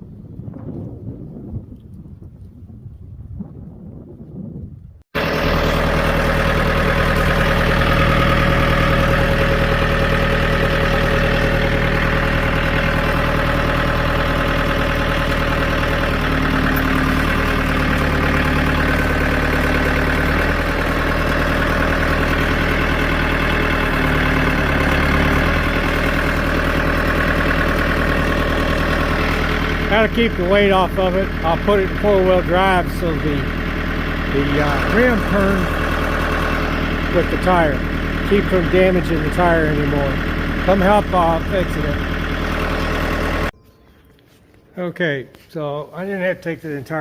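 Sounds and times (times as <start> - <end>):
tractor diesel engine running: 5.2 - 44.7.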